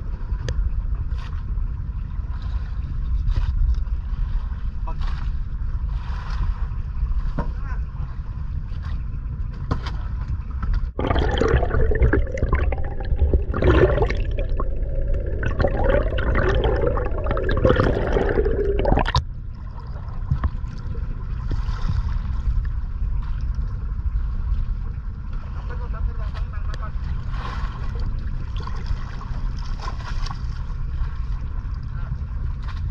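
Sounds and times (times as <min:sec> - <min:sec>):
low steady rumble: 0:00.0 - 0:32.9
water gurgling and sloshing: 0:00.0 - 0:32.9.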